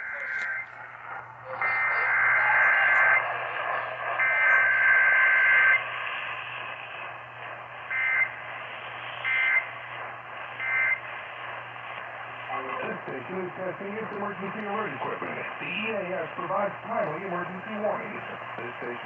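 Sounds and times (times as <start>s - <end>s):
low hum: 0.0s - 19.0s
radio hiss: 0.0s - 19.0s.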